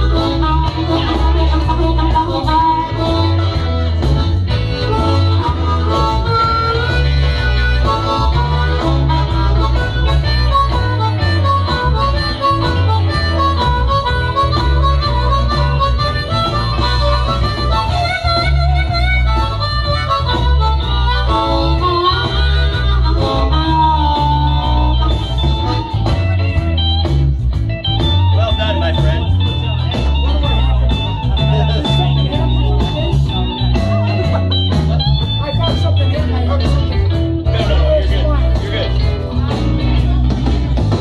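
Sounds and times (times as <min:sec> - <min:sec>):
blues backing with heavy bass: 0:00.0 - 0:41.0
blues harmonica bending notes: 0:00.0 - 0:41.0.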